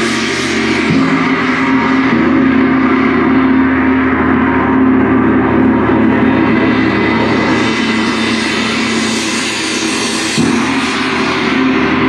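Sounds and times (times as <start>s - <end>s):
sustained low ringing tone: 0.0s - 12.0s.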